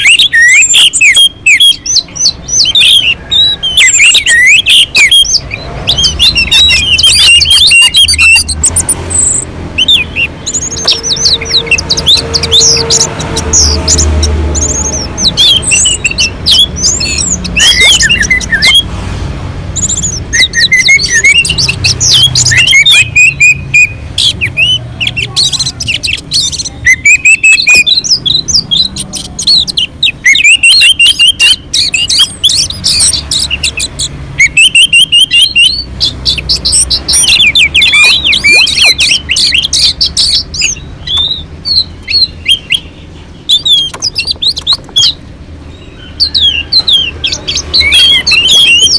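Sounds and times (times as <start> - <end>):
thrush singing varied song: 0.0 - 48.9.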